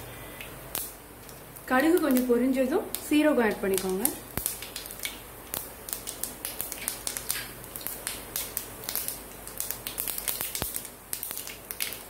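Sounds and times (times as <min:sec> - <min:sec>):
lentils sizzling and popping in oil: 0:00.1 - 0:12.0.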